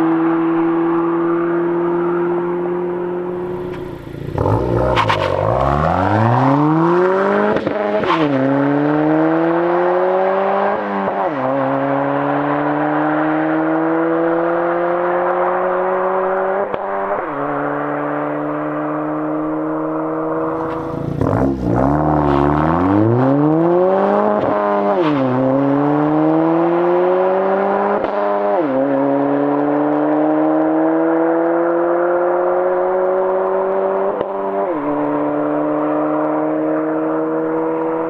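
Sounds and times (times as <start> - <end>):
turbo car engine accelerating: 0.0 - 38.0.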